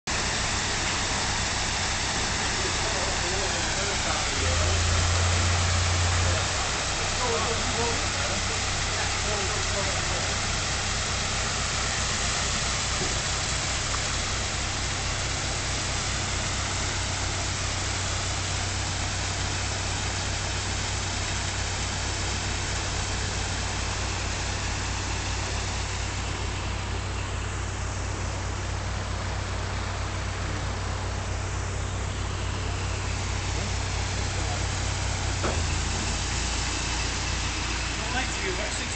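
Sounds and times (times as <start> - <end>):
boat diesel engine idling: 0.0 - 38.9
water rushing through lock gates: 0.1 - 38.9.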